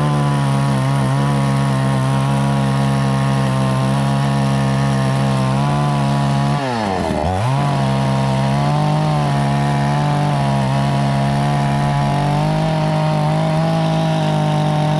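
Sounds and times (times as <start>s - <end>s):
chainsaw engine at high revs: 0.0s - 14.9s.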